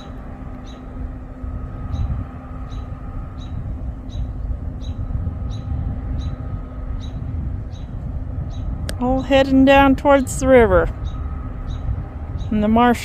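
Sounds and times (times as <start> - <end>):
distant farm machinery hum: 0.0 - 13.0
wind rumble on microphone: 0.0 - 13.0.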